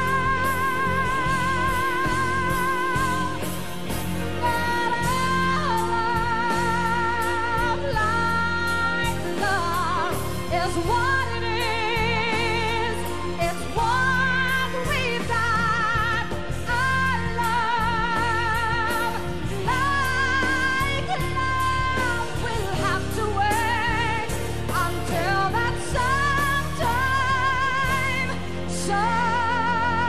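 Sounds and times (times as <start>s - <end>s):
live band with bass and drums: 0.0s - 30.0s
woman singing with vibrato: 0.0s - 30.0s.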